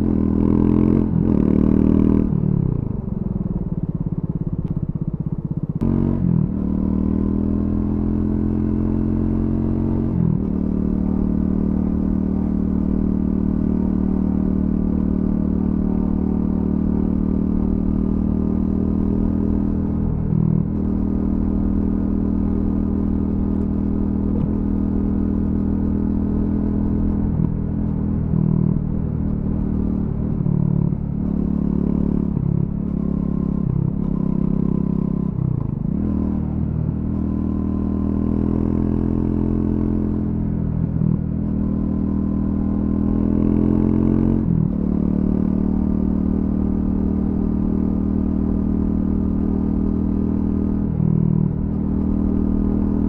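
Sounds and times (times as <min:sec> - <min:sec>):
motorcycle engine revving: 0:00.0 - 0:03.3, 0:05.7 - 0:53.0.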